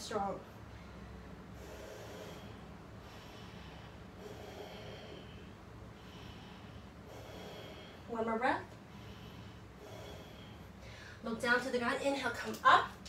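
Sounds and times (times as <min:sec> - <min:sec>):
person breathing slowly: 0:00.6 - 0:11.2.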